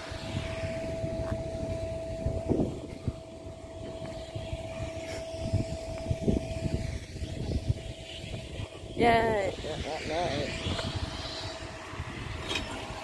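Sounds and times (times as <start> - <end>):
low rumble of train: 0.0 - 13.0.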